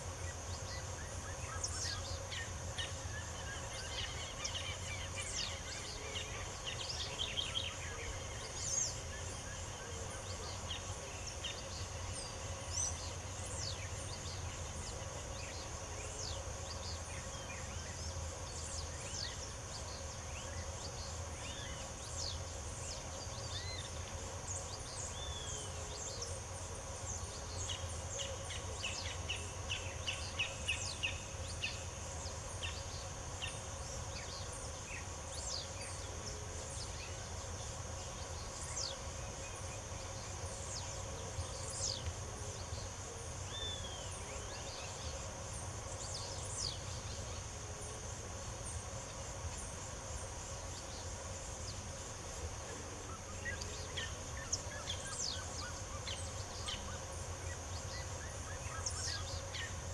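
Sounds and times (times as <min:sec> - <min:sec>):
high insect drone: 0:00.0 - 0:59.9
songbirds chirping: 0:00.0 - 0:59.9.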